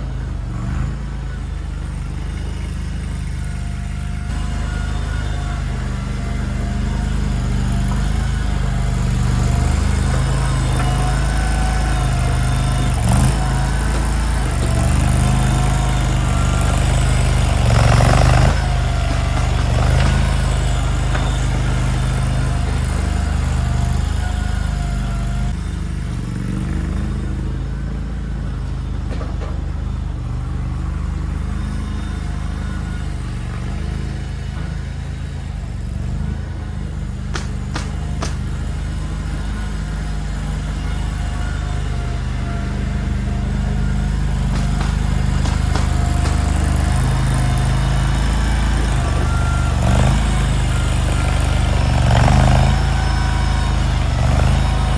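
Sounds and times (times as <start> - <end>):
small engine whining under load: 0.0 - 54.9.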